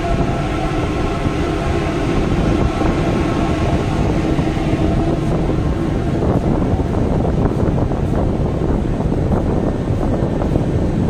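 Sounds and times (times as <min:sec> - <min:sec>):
ship engine droning: 0:00.0 - 0:11.0
wind and wake water rushing: 0:00.0 - 0:11.0.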